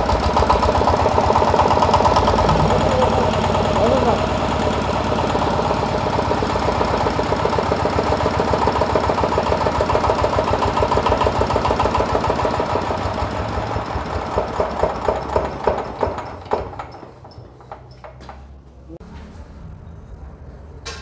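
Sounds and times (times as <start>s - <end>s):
diesel engine running and stopping: 0.0s - 18.4s.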